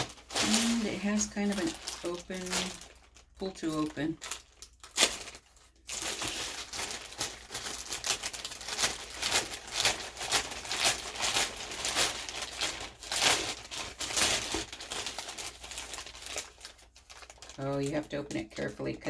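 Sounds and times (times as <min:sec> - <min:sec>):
packaging rustling and crackling: 0:00.0 - 0:19.0.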